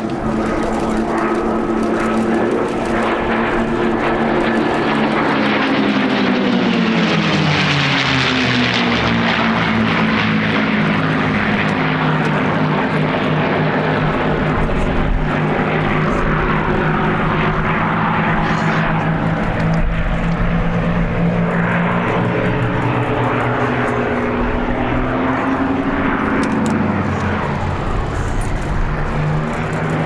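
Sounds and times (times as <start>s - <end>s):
aircraft piston engines passing: 0.0s - 30.0s.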